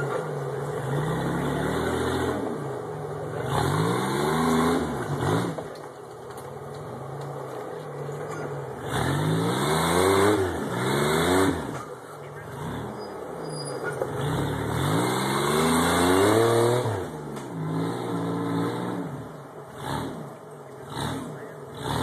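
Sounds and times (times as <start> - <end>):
buggy engine revving hard: 0.0 - 5.9, 6.6 - 22.0.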